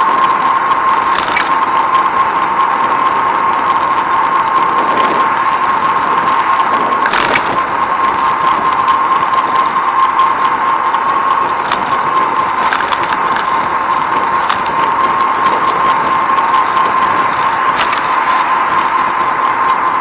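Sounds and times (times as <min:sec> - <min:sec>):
high whine: 0:00.0 - 0:20.0
small clicks and rattles: 0:00.0 - 0:20.0.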